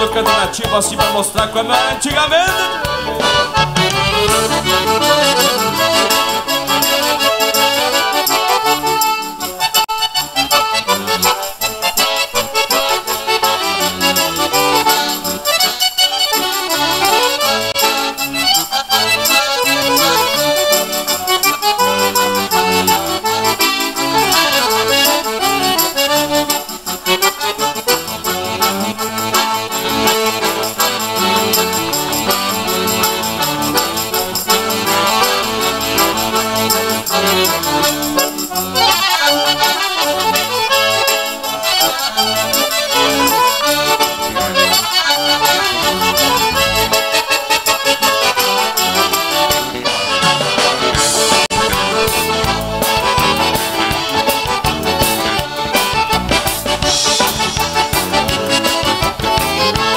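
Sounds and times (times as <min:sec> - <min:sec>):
accordions playing folk dance tune: 0:00.0 - 0:59.9
percussion beat: 0:00.0 - 0:59.9.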